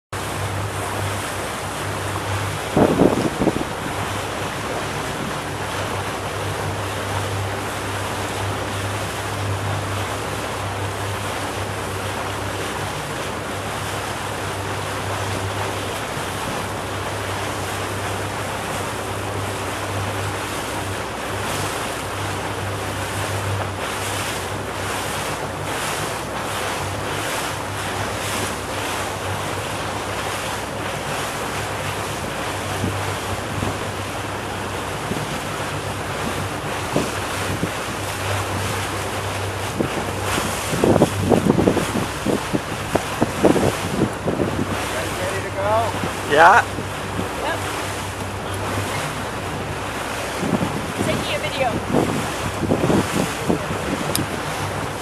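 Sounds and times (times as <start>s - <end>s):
motorboat engine drone: 0.1s - 55.0s
water rushing along hull: 0.1s - 55.0s
wind buffeting microphone: 0.1s - 55.0s.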